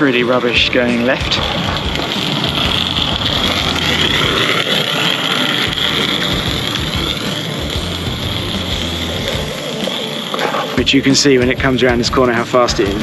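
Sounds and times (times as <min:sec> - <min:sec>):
faint high whine: 0:00.0 - 0:13.0
model train rolling on track: 0:00.0 - 0:13.0.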